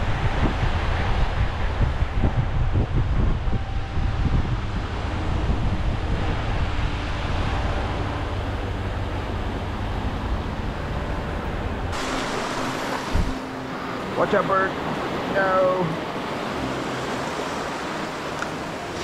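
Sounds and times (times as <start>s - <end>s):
wind buffeting microphone: 0.0s - 19.0s
breaking waves: 3.6s - 19.0s.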